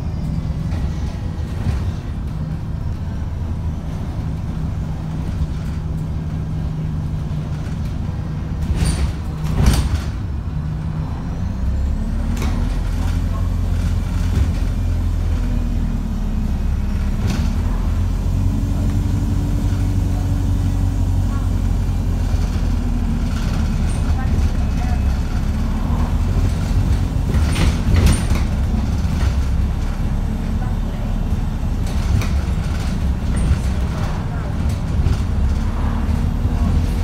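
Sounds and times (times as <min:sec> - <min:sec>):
bus engine running: 0:00.0 - 0:37.0.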